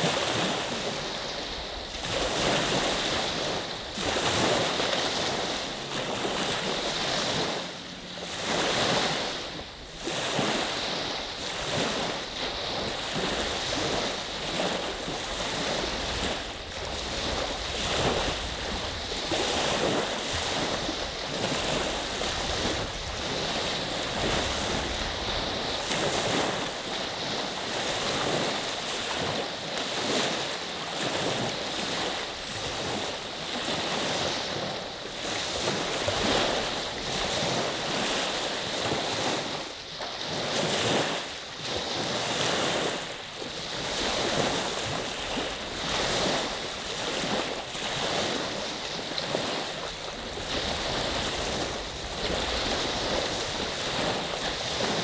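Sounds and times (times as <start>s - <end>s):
waves washing onto beach: 0.0s - 55.0s
wind on microphone: 0.0s - 55.0s.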